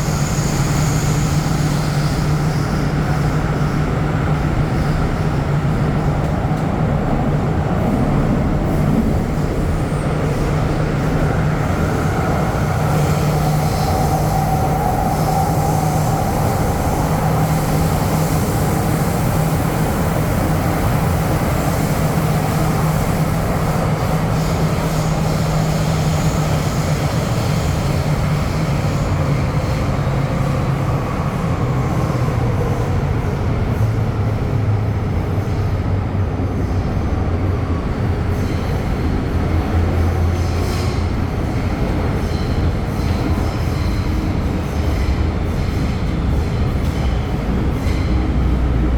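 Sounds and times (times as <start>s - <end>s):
wheels rumbling on rail: 0.0s - 48.9s.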